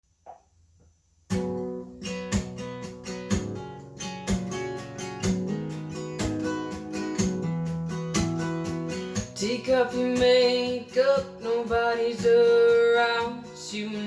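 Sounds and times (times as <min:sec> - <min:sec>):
acoustic guitar strumming: 0:01.3 - 0:14.0.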